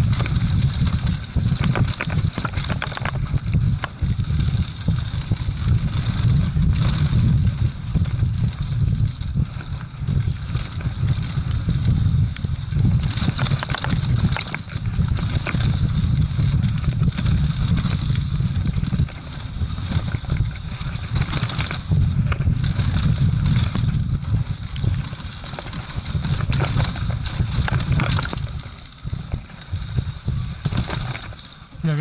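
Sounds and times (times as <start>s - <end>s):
mountain bike rattling: 0.0s - 32.0s
wind buffeting microphone: 0.0s - 32.0s.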